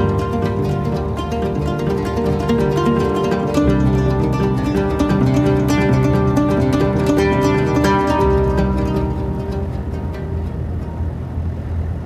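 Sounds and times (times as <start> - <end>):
plucked string background music: 0.0 - 12.0.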